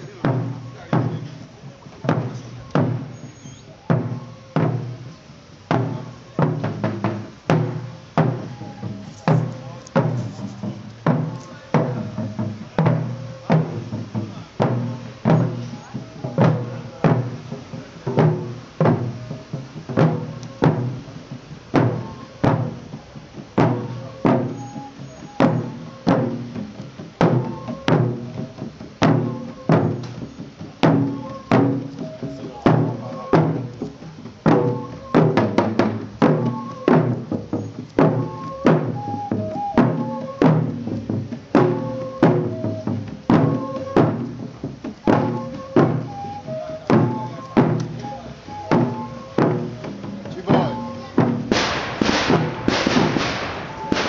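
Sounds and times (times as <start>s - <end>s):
drums marching beat: 0.0s - 54.0s.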